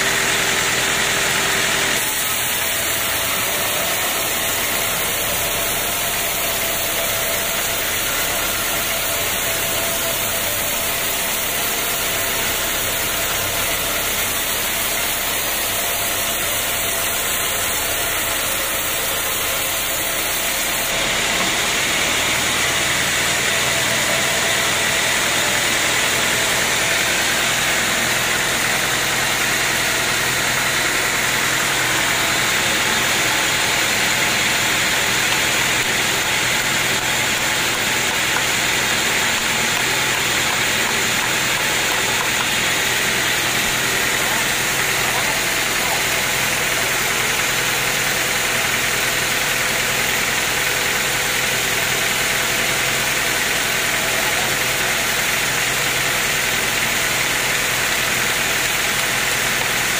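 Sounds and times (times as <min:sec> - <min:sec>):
band sawmill running: 0:00.0 - 0:59.9.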